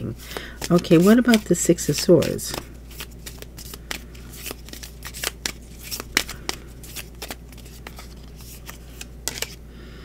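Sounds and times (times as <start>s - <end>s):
cards being shuffled: 0.2s - 9.6s.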